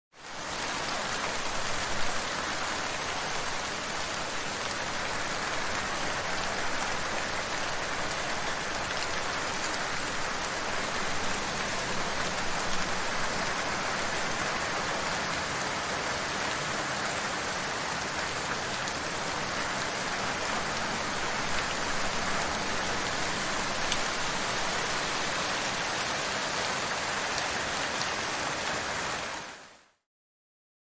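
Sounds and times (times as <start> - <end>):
rain spatters: 0.2 - 29.8
rain falling steadily: 0.2 - 30.0.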